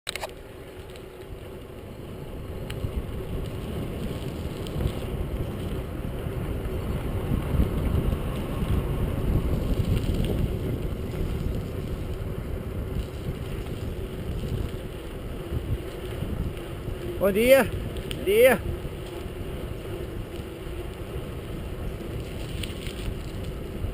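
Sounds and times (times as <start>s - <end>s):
tyre and road rumble: 0.1s - 23.9s
wind buffeting microphone: 1.2s - 23.9s.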